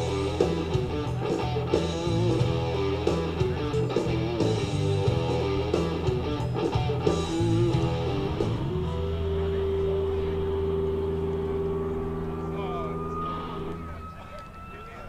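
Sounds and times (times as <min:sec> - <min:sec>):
rock music over loudspeaker: 0:00.0 - 0:14.9.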